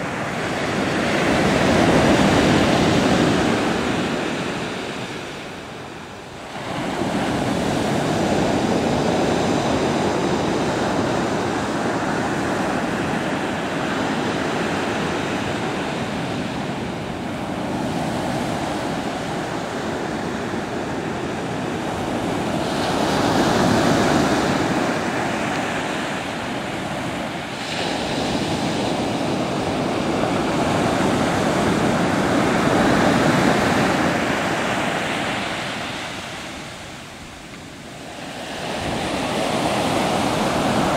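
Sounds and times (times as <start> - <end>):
surf breaking on beach: 6.4 - 40.9.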